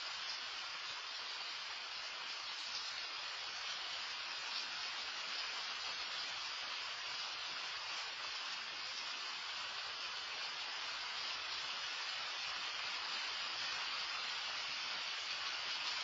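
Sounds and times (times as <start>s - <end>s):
loud steady rain: 0.0s - 16.0s.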